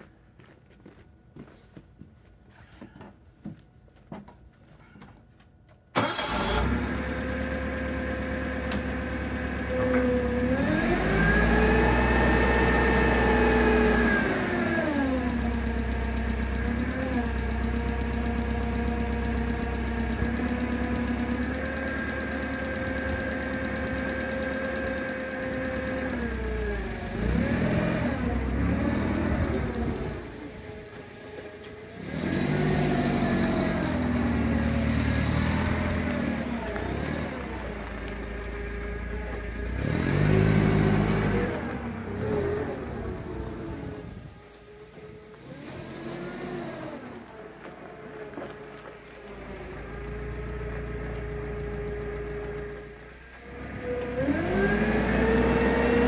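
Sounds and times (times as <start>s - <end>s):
forklift engine starting and idling: 5.7s - 56.0s
engine revving: 6.0s - 56.0s.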